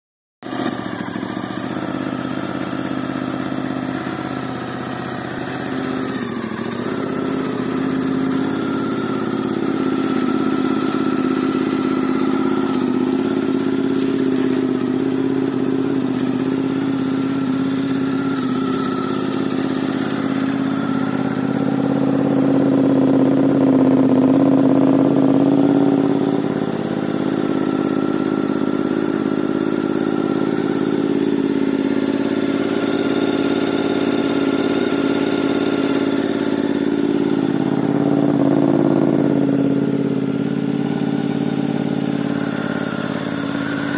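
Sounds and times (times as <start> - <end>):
motorcycle engine idling: 0.4 - 43.9.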